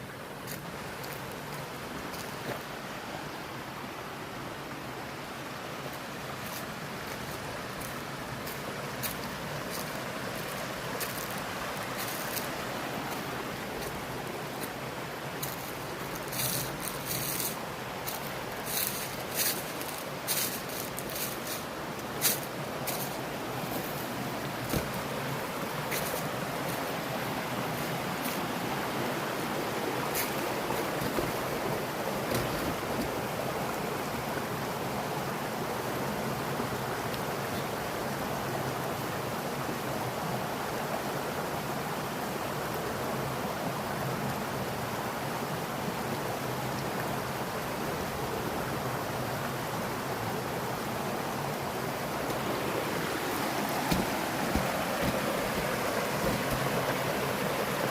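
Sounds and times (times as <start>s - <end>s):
stream water over rocks: 0.0s - 57.9s.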